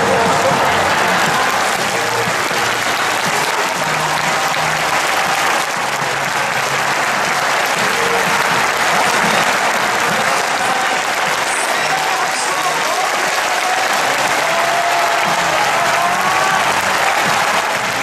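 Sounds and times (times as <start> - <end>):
stadium crowd applauding and cheering: 0.0 - 18.0.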